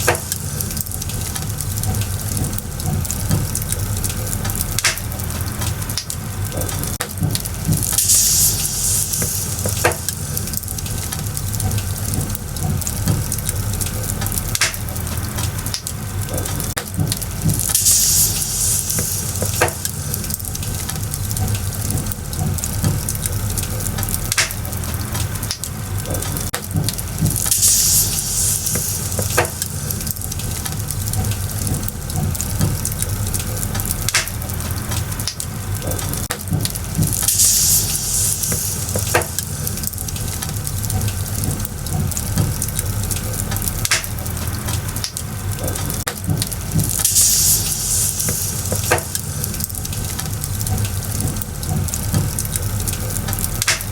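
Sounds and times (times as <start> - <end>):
bonfire crackling and popping: 0.0 - 53.9
fire hissing: 0.0 - 53.9
flame rumble: 0.0 - 53.9.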